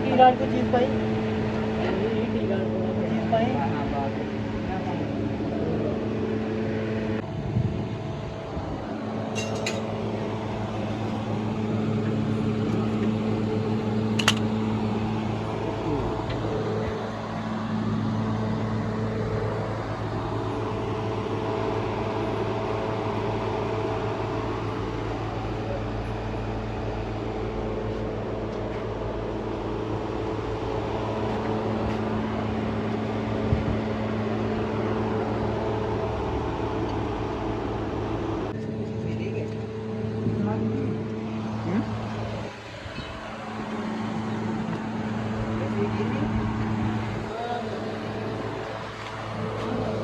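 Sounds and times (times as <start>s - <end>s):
mechanical hum: 0.0s - 50.0s.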